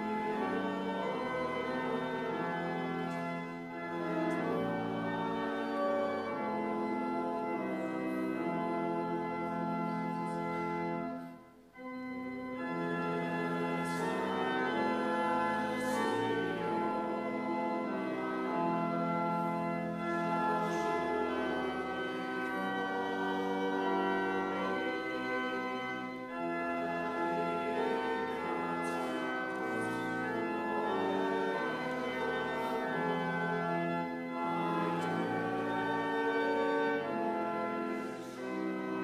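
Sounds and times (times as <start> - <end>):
church organ chords: 0.0 - 39.0.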